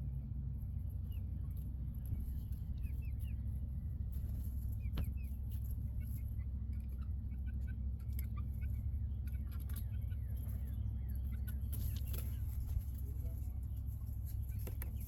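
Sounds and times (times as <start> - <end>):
chickens chirping and peeping: 0.0 - 15.0
steady low hum: 0.0 - 15.0.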